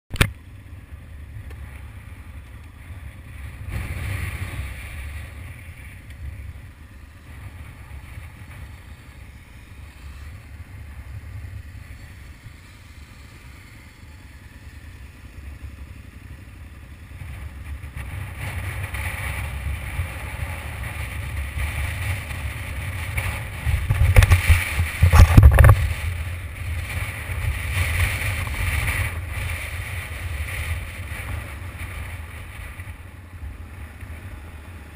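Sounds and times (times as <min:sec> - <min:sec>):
motorcycle running: 0:00.1 - 0:34.9
wind rumbling on microphone: 0:00.1 - 0:34.9.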